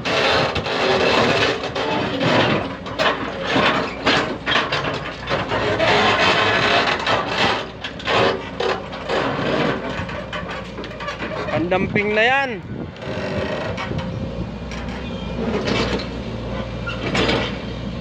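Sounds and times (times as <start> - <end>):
excavator engine under load: 0.0 - 18.0.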